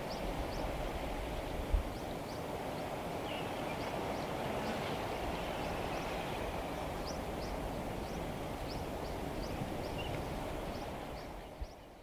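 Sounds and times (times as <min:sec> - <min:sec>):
low outdoor background noise: 0:00.0 - 0:12.0.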